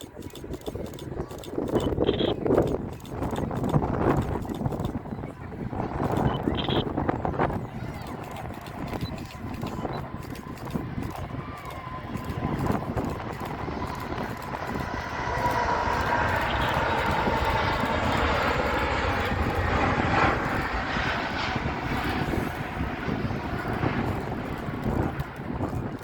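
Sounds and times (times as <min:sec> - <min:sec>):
jet airliner passing: 0:00.0 - 0:26.0.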